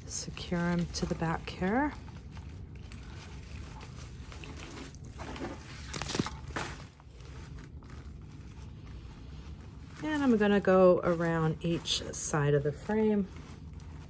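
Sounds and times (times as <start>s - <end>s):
rustling and crinkling of craft materials: 0.0s - 14.0s.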